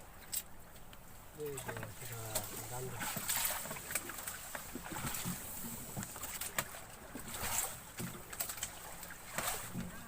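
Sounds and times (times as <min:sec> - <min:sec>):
water lapping against boat hull: 0:00.0 - 0:10.0
water splashes: 0:00.0 - 0:10.0.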